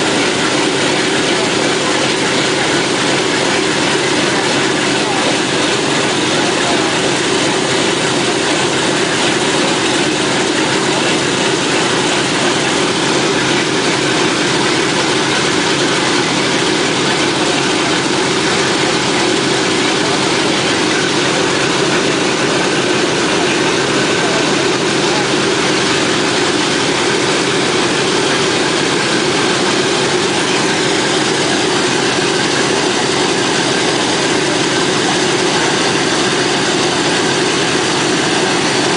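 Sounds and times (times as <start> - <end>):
radial aircraft engines droning: 0.0 - 38.9.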